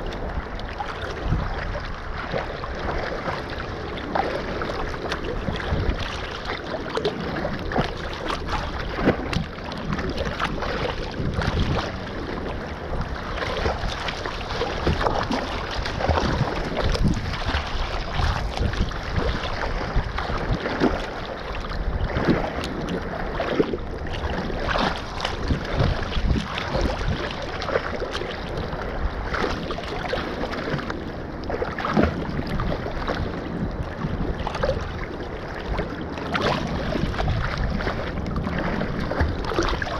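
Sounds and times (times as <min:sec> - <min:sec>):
choppy water sloshing and splashing: 0:00.0 - 0:39.9
wind buffeting microphone: 0:00.0 - 0:39.9.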